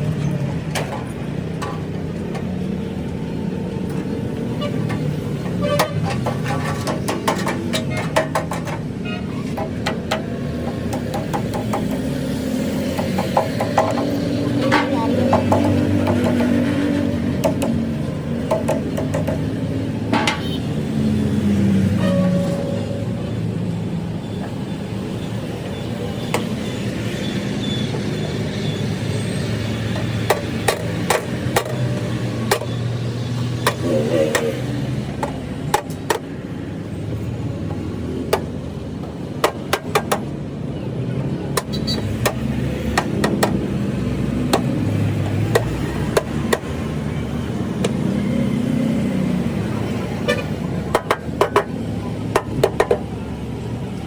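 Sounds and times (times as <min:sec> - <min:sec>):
vehicle engine rumble: 0:00.0 - 0:54.0
hand tools tapping on metal: 0:00.6 - 0:20.7, 0:21.9 - 0:23.4, 0:29.5 - 0:40.5, 0:41.1 - 0:48.1, 0:48.8 - 0:53.5.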